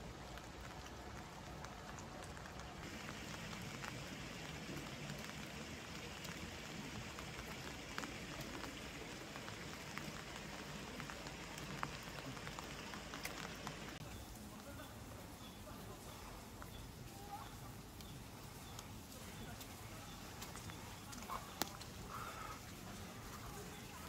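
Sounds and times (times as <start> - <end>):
rain patter: 0.0 - 24.0.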